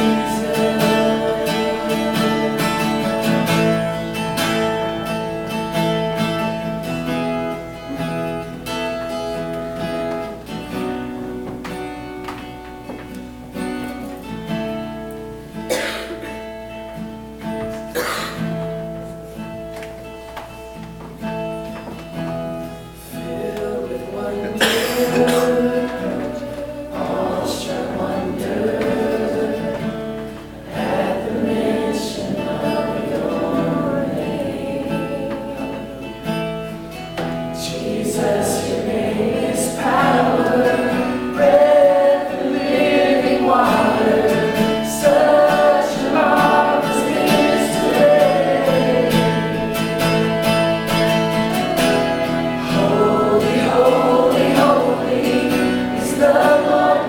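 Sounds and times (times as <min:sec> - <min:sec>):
congregation singing a hymn: 0:00.0 - 0:16.8, 0:21.2 - 0:57.0
guitar accompaniment: 0:00.0 - 0:57.0.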